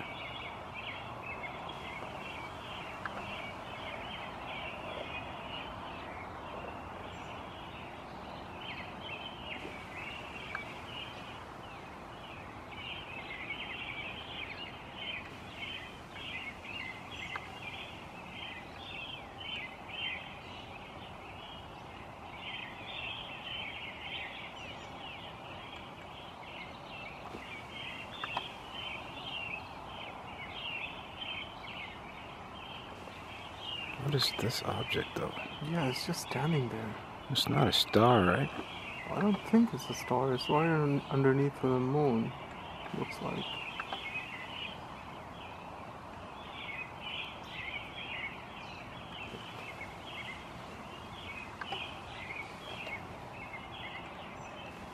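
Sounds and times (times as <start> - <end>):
faint background noise: 0.0 - 54.9
small birds chirping: 0.0 - 54.9.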